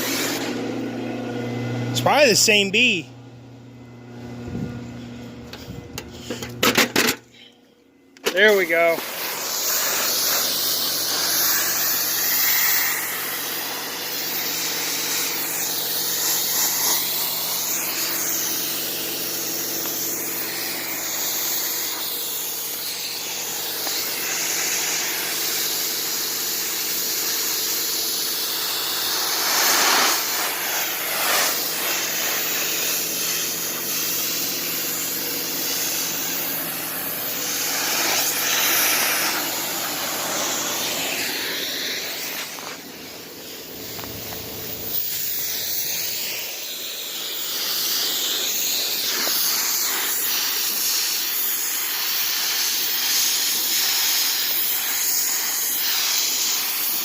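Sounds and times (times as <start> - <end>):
pressure washer spray hiss: 0.0 - 0.6, 8.3 - 57.0
pressure washer motor hum: 0.0 - 57.0.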